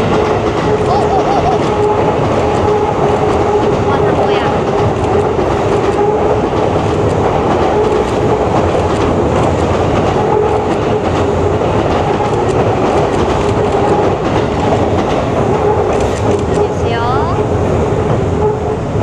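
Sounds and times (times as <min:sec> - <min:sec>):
train rumble and wheel clatter: 0:00.0 - 0:19.0.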